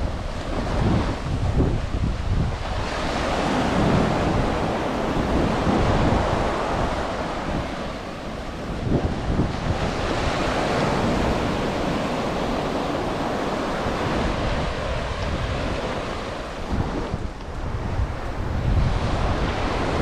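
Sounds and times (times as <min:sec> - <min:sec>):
surf breaking on a beach: 0:00.0 - 0:20.0
wind rumbling on microphone: 0:00.0 - 0:20.0.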